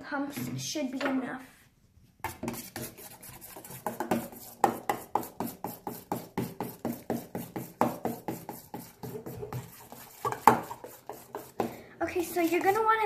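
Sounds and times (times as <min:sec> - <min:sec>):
metal spoon stirring in steel bowl: 0:02.3 - 0:13.0.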